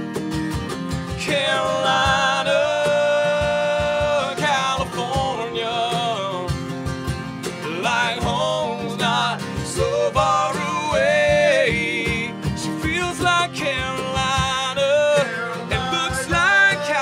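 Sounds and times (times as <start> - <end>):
acoustic guitars strumming: 0.0 - 17.0
man singing lead vocal: 1.1 - 6.8, 7.5 - 17.0.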